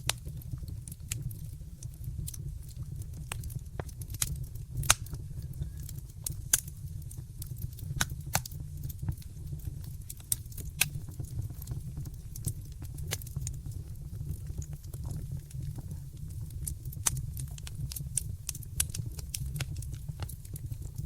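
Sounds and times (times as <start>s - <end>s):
low rumble of burning fire: 0.0s - 21.0s
wood fire crackling and popping: 0.0s - 21.0s.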